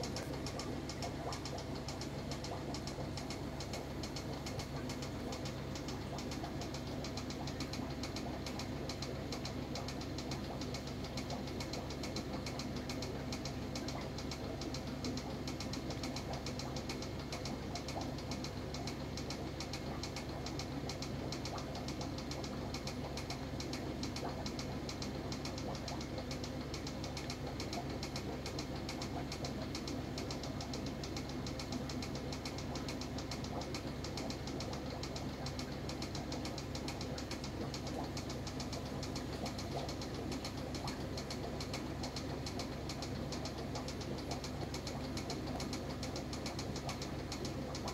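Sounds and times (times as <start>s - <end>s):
aquarium pump humming and ticking: 0.0s - 47.9s.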